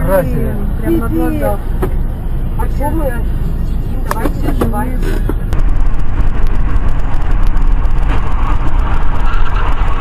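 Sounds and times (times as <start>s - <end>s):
car driving at highway speed: 0.0s - 10.0s.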